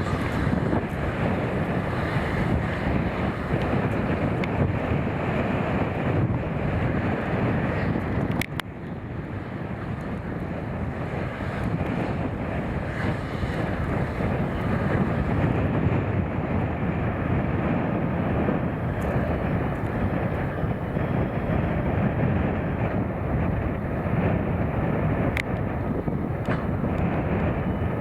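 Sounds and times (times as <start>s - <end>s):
tractor and baler running: 0.0s - 28.0s.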